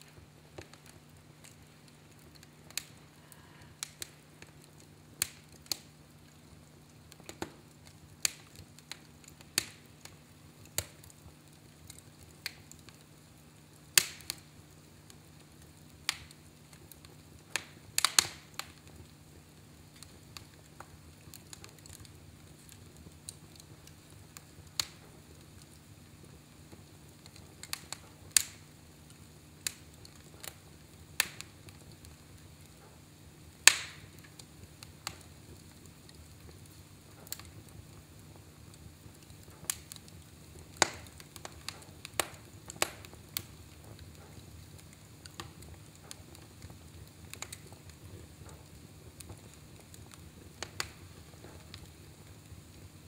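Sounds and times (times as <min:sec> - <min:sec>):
faint low steady hum: 0:00.0 - 0:53.0
fire crackling in a fireplace: 0:00.0 - 0:53.0.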